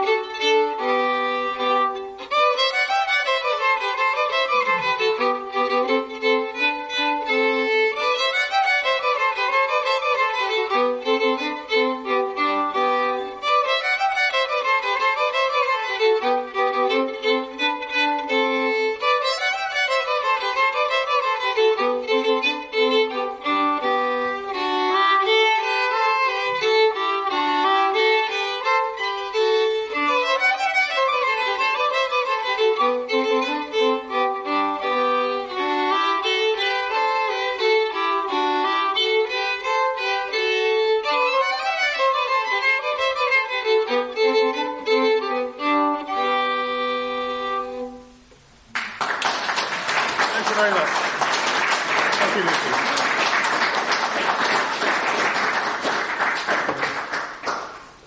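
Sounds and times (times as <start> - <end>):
fiddle playing folk tune: 0.0 - 48.7.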